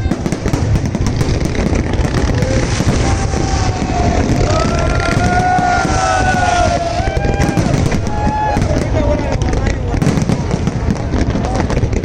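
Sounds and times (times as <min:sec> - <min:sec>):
fireworks rumbling and crackling: 0:00.0 - 0:12.0.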